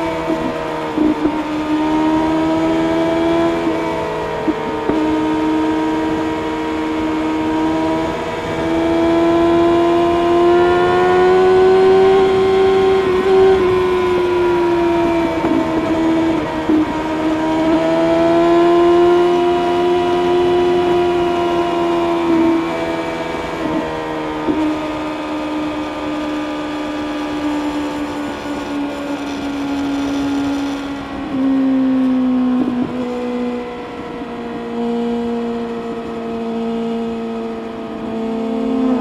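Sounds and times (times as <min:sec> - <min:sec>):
motorcycle engine at high revs: 0:00.0 - 0:39.0.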